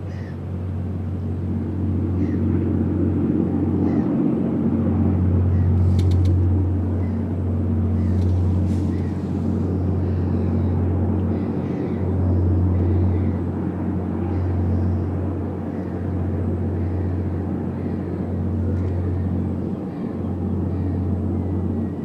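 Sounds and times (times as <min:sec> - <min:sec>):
ship diesel engines droning: 0:00.0 - 0:22.0.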